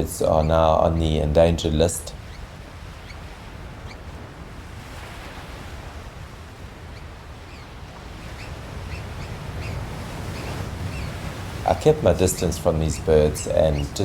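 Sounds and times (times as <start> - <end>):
birds peeping: 0.0 - 4.2, 6.8 - 14.0
surf washing: 0.0 - 14.0.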